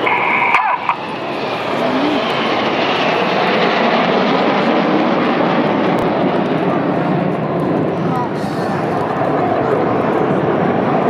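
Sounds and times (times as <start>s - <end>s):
jet aircraft roar: 0.0s - 11.0s.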